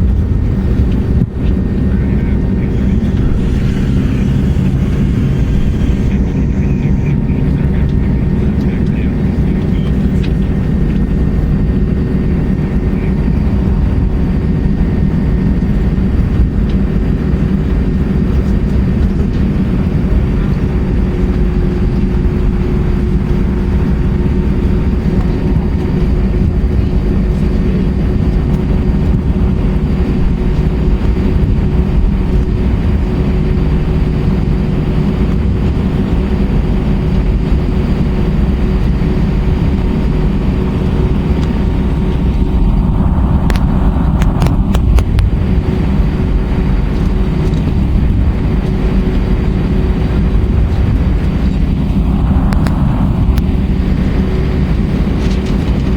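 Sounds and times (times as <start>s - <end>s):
jet engines heard in cabin: 0.0s - 55.9s.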